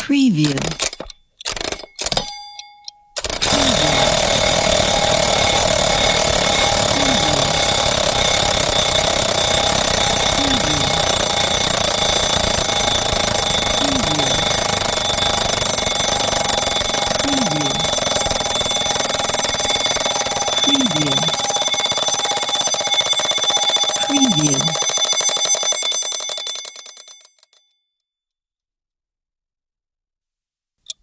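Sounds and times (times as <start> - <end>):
clock ticking: 0.0 - 27.0
alarm clock ringing: 1.8 - 27.6.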